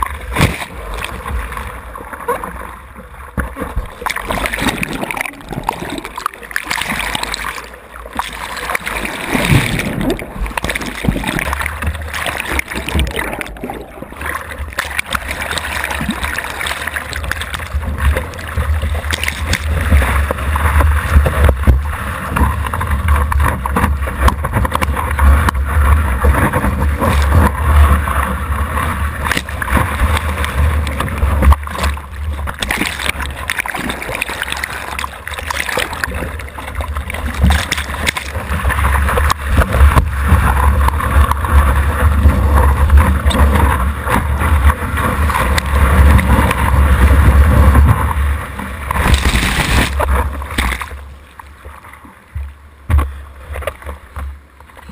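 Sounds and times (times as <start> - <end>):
water sloshing and splashing: 0.0 - 54.9
wind and water rumble: 0.0 - 54.9.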